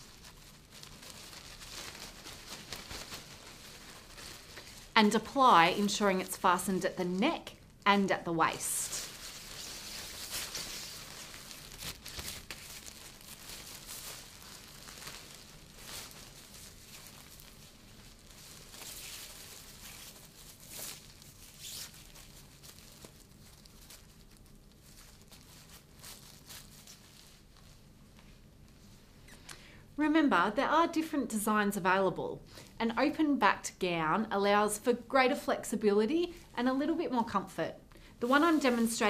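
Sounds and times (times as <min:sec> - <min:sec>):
plastic gown rustling: 0:00.0 - 0:39.0.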